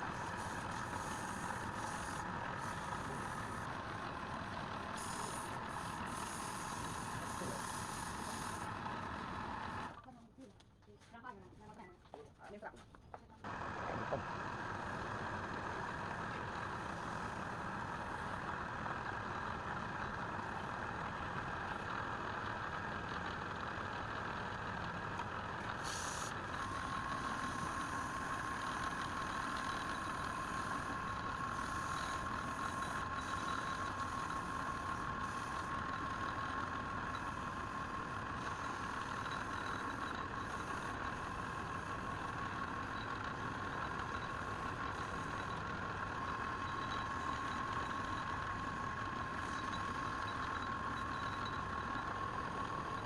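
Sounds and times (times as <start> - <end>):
machine running steadily: 0.0 - 12.7, 13.4 - 53.0.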